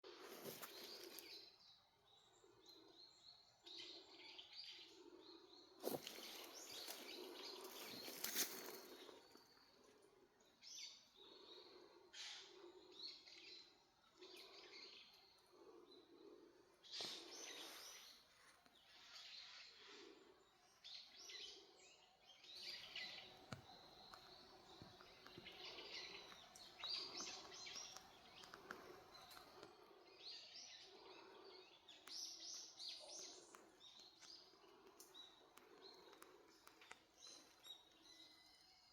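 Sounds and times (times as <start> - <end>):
faint birds chirping: 0.0 - 38.9.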